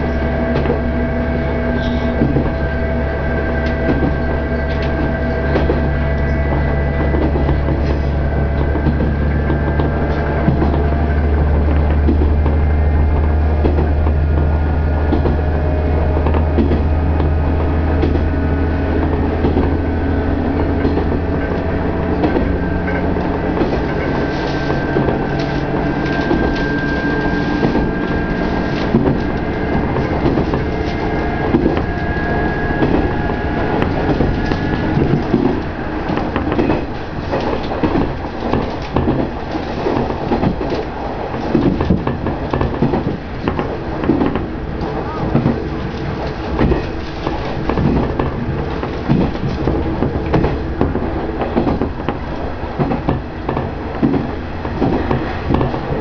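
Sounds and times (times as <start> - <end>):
diesel engine drone: 0.0 - 56.0
wheels clicking over rail joints: 0.0 - 56.0.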